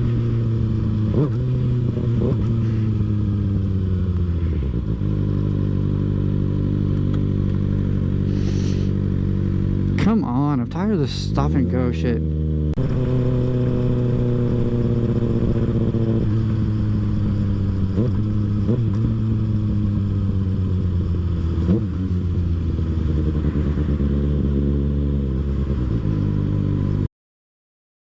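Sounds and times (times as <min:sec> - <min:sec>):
motorcycle engine at low revs: 0:00.0 - 0:27.1.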